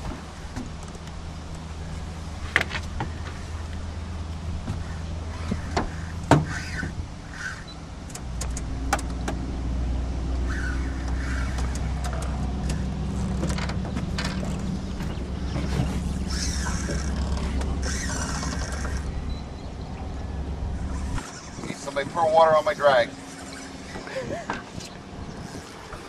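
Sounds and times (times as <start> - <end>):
boat motor droning: 0.0 - 26.0.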